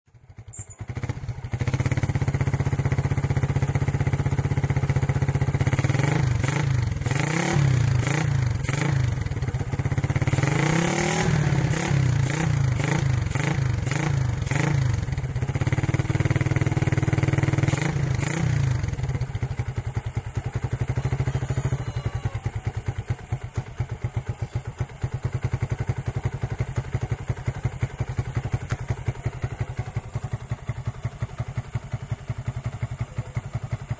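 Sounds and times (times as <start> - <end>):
motorcycle engine idling and revving: 0.1 - 33.9.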